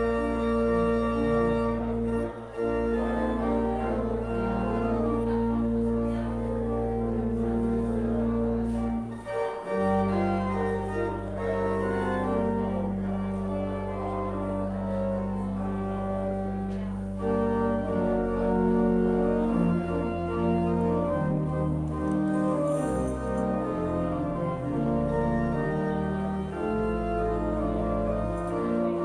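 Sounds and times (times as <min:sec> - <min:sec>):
church organ chords: 0:00.0 - 0:29.0.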